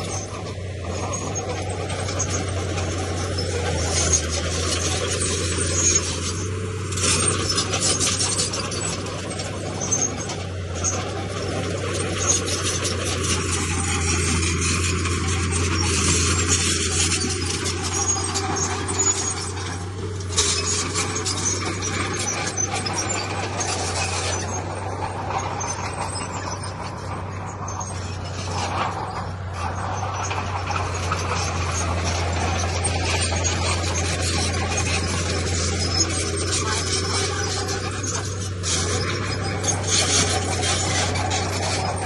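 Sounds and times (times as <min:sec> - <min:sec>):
diesel machinery engine drone: 0:00.0 - 0:42.0
metal and stone rattling: 0:00.0 - 0:42.0.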